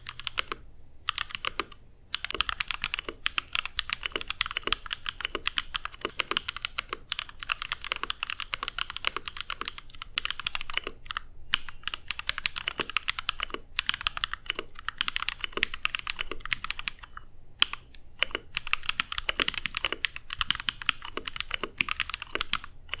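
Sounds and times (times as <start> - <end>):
mechanical keyboard typing: 0.0 - 23.0.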